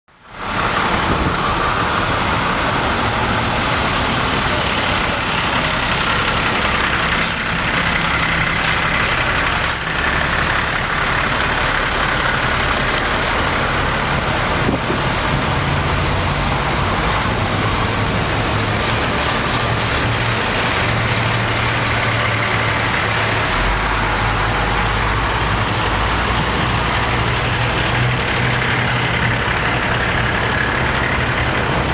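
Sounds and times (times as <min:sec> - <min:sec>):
truck engines droning: 0:00.1 - 0:31.9.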